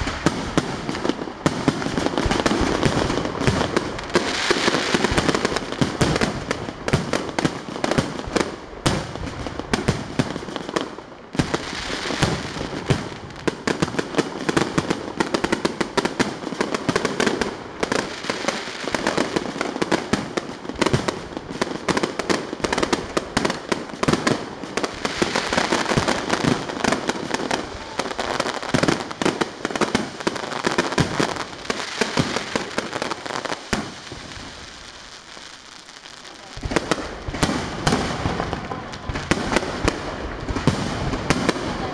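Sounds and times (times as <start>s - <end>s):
firework crackling: 0.0s - 41.9s.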